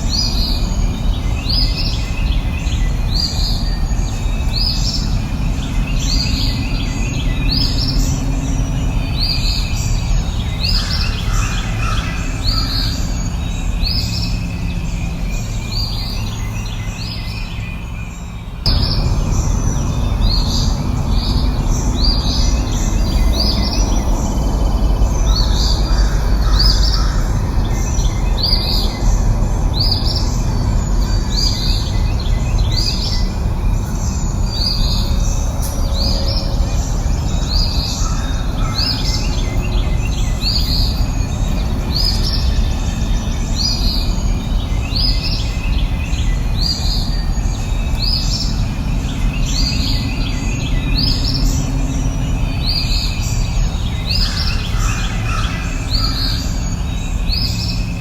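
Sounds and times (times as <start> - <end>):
low background rumble: 0.0 - 58.0
songbird chirping: 0.0 - 58.0.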